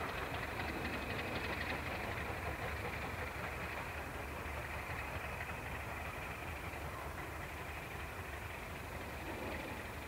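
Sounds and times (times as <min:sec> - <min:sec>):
distant diesel locomotive engine: 0:00.0 - 0:10.0.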